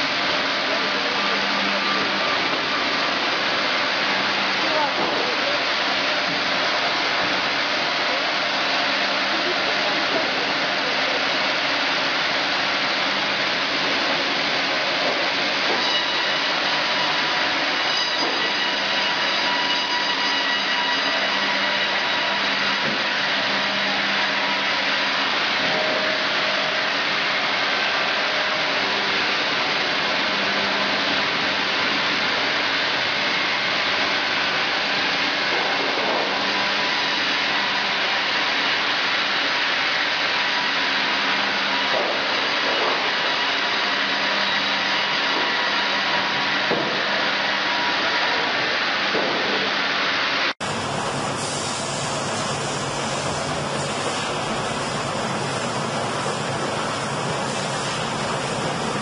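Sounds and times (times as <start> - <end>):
heavy machinery running: 0.0 - 59.0.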